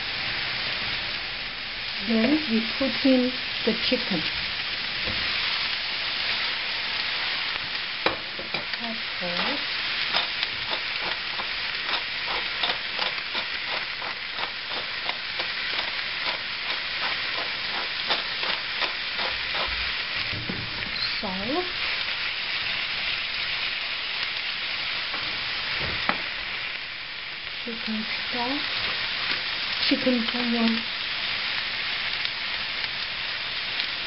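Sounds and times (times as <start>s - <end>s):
chicken sizzling in a frying pan: 0.0s - 34.0s.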